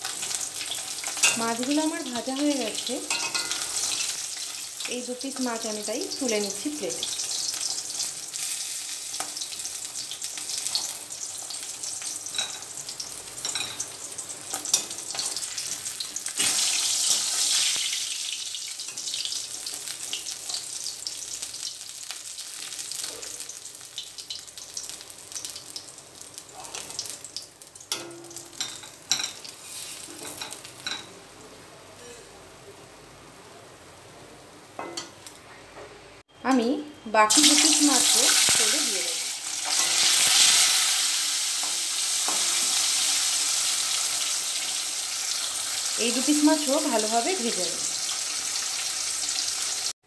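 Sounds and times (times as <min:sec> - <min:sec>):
fish frying in oil: 0:00.0 - 0:31.1, 0:37.2 - 0:50.0.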